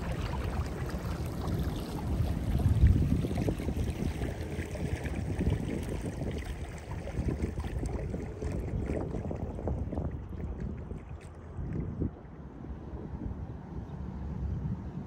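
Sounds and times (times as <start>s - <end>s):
water lapping against kayak: 0.0s - 12.7s
wind buffeting microphone: 0.0s - 15.0s.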